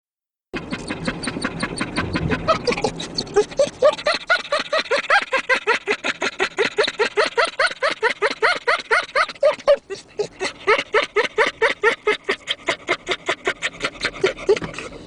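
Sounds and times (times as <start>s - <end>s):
dog panting huffs: 0.6s - 15.0s.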